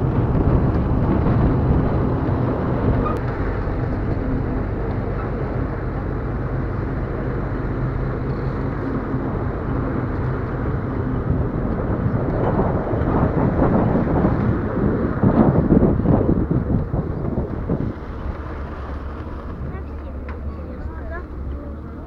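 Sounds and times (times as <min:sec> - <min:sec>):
engine running steadily: 0:00.0 - 0:22.0
travel and wind noise: 0:00.0 - 0:22.0.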